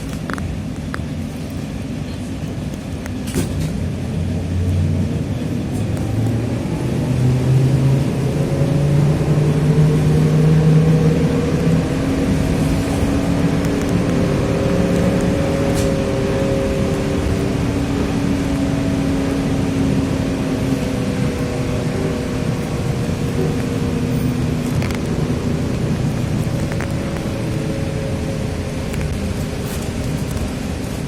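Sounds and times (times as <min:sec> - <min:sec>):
road noise hiss: 0:00.0 - 0:31.0
trolleybus motor whine: 0:00.0 - 0:31.0.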